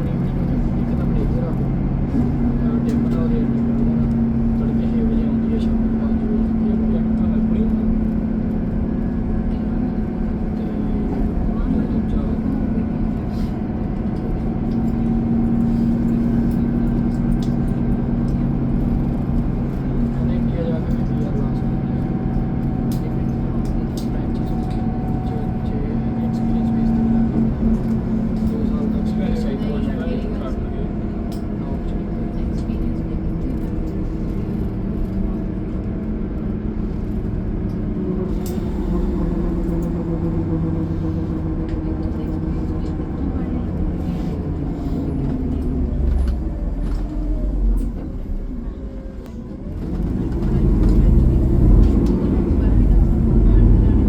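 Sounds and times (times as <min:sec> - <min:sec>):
bus engine rumble and hum: 0:00.0 - 0:54.0.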